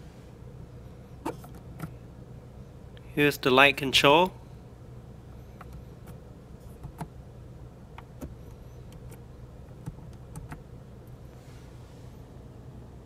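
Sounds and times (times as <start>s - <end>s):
car cabin hum: 0.3s - 3.0s, 4.7s - 13.0s.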